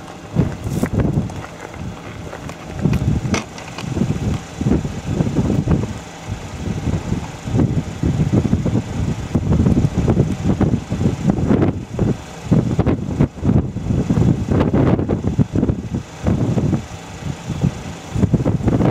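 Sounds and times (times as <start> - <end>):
wind buffeting the microphone: 0.0 - 18.9.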